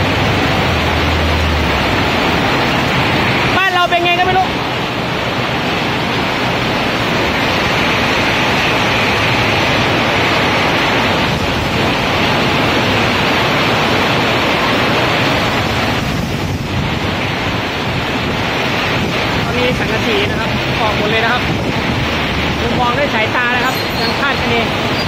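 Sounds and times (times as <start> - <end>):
heavy rain: 0.0 - 25.0
storm wind: 0.0 - 25.0
wind buffeting microphone: 0.0 - 25.0.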